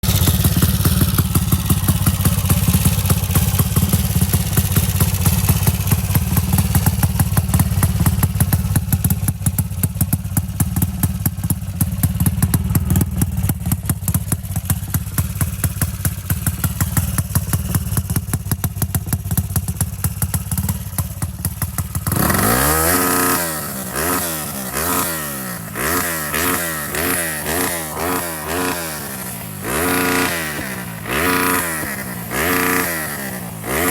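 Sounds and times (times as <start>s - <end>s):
motorcycle engine idling: 0.0s - 33.9s
motorcycle engine revving: 0.0s - 33.9s.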